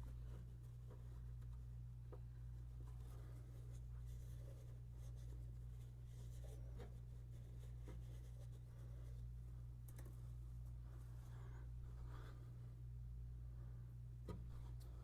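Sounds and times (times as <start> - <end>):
hand rubbing and scratching: 0.0 - 12.6
steady low hum: 0.0 - 15.0.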